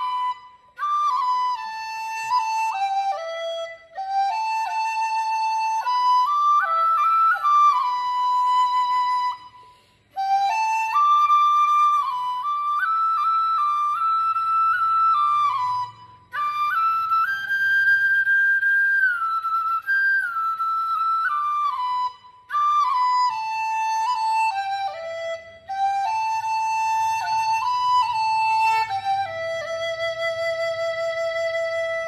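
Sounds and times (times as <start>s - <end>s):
bamboo flute slow melody: 0.0s - 32.0s.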